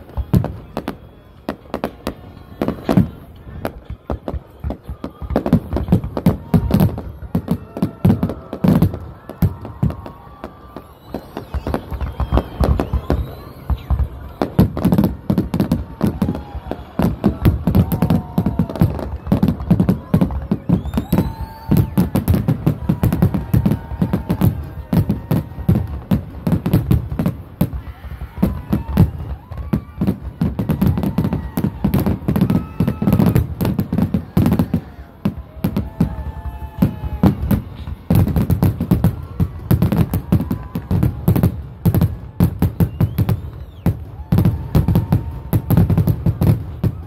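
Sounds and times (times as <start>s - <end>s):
fireworks booming and banging: 0.0s - 47.0s.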